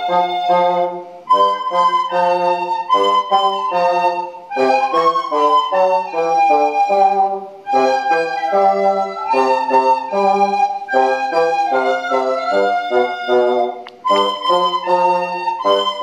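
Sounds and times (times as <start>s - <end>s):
bassoon low notes: 0.0s - 16.0s
recorders playing a melody: 0.0s - 16.0s.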